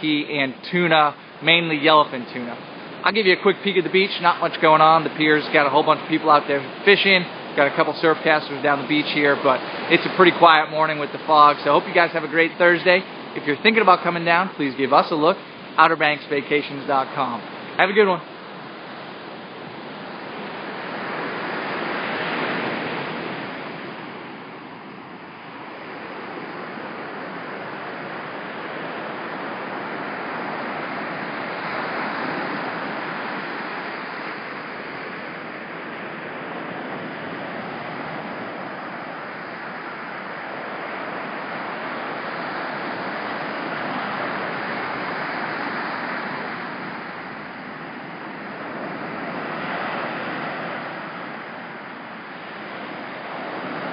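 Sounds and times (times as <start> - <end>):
surf breaking on a beach: 0.0 - 53.9.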